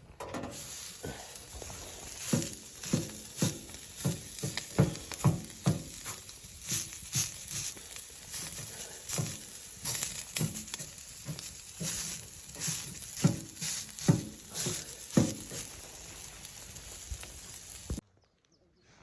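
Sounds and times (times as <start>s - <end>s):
footsteps crunching in snow: 1.4s - 18.0s.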